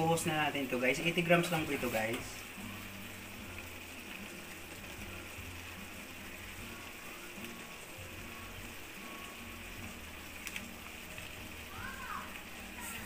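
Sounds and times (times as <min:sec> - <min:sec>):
pot simmering with faint hiss: 0:00.0 - 0:13.0.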